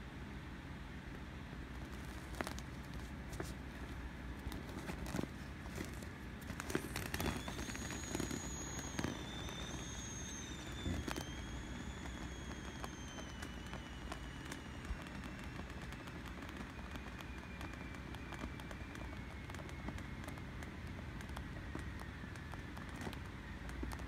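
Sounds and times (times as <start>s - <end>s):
vinyl crackling and creaking: 1.6s - 24.0s
air whistling from inflatable: 4.6s - 24.0s.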